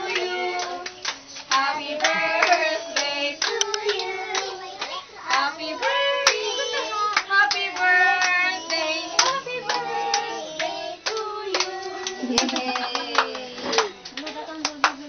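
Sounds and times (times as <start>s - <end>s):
group clapping in rhythm: 0.0s - 15.0s.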